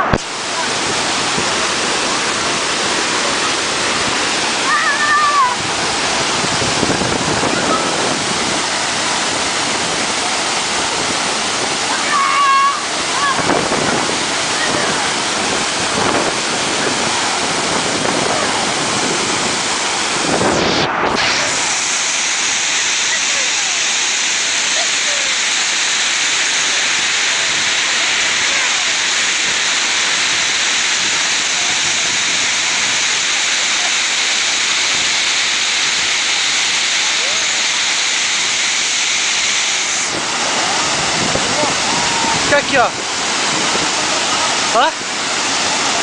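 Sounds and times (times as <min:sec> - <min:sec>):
waterfall pouring and splashing: 0:00.0 - 0:46.0.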